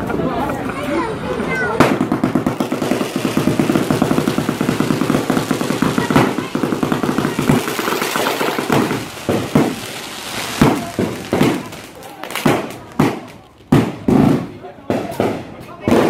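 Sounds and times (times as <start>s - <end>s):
firecrackers banging: 0.0s - 16.0s.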